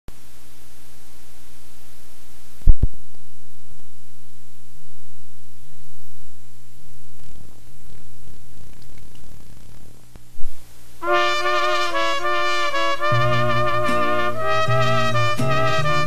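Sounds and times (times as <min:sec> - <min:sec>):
electrical mains hum: 0:00.1 - 0:16.0.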